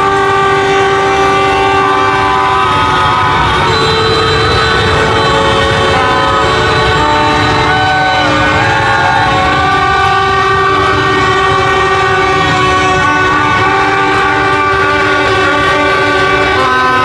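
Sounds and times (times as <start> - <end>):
horns blaring: 0.0 - 17.0
motorbike traffic rumble: 0.0 - 17.0.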